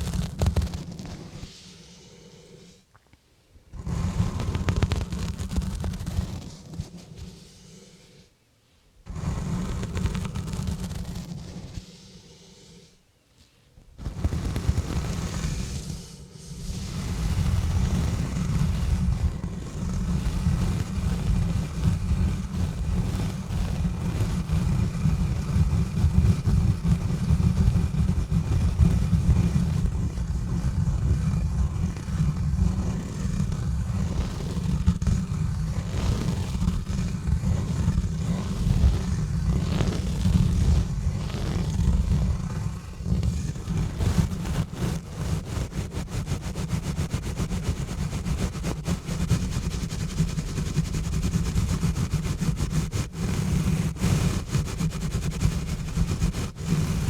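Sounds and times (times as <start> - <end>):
gloves scratching on microphone: 0.0 - 1.7, 3.7 - 7.6, 9.1 - 11.9, 14.0 - 57.0.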